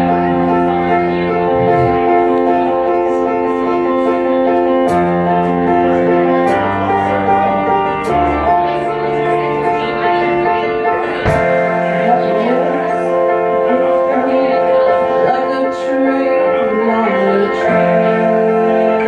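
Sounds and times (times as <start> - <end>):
keyboard playing held chords: 0.0 - 19.0.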